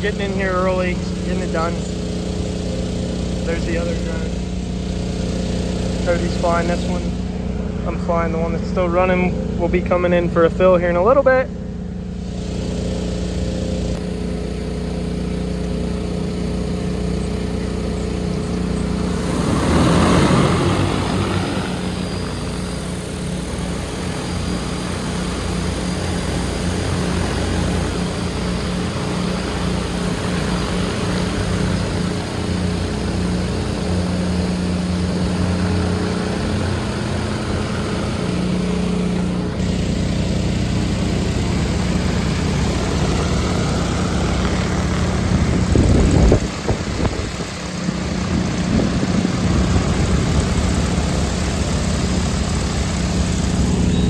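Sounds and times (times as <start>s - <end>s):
drone propellers humming: 0.0s - 54.0s.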